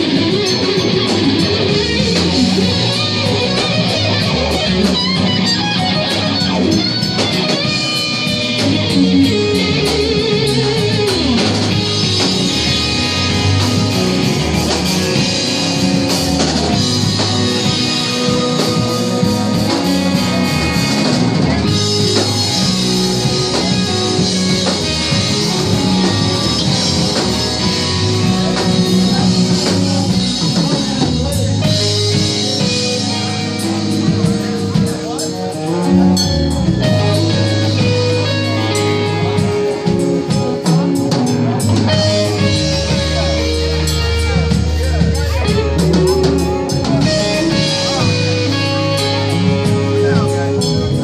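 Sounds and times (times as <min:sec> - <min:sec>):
drum kit: 0:00.0 - 0:51.0
electric guitars: 0:00.0 - 0:51.0.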